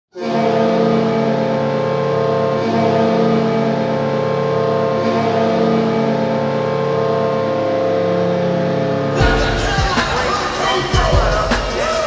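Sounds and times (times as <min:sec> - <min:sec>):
arena goal horn blast: 0:00.1 - 0:06.6, 0:07.3 - 0:12.0.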